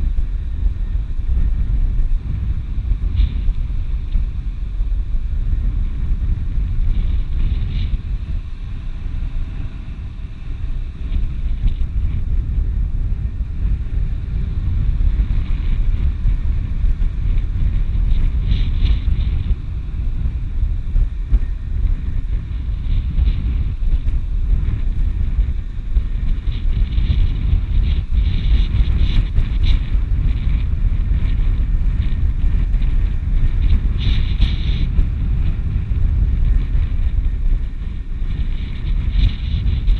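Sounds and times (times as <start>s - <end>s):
wind buffeting microphone: 0.0s - 39.9s
wind hiss: 0.0s - 39.9s.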